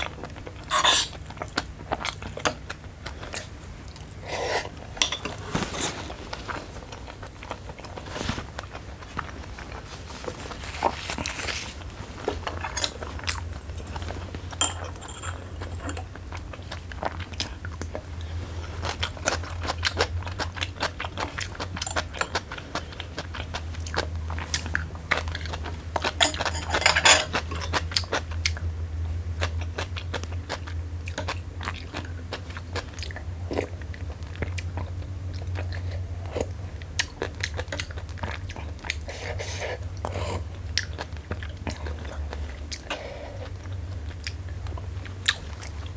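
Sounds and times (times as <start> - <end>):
person chewing food: 0.0 - 28.7, 29.4 - 45.9
steady low hum: 0.0 - 45.9.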